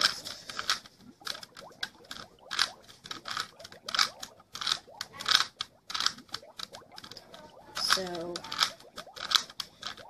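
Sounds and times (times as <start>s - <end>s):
puzzle cube layers clicking: 0.0s - 10.0s.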